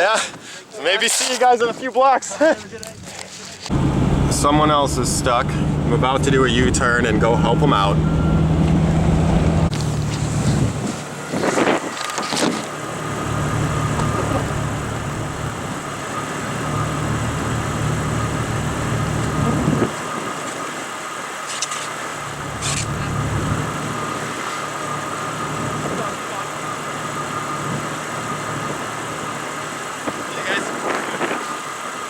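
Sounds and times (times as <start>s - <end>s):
car engine running at low speed: 3.7s - 32.0s.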